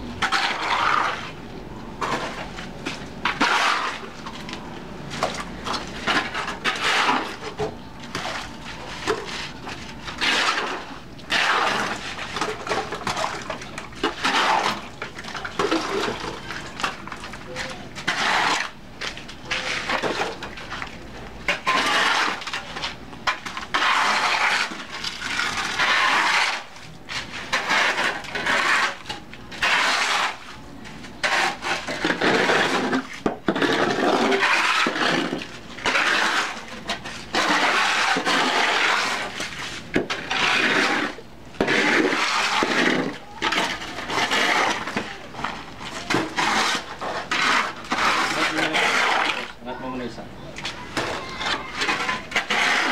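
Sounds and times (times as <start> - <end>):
shovels scraping cement on concrete: 0.2 - 1.4, 2.0 - 52.9.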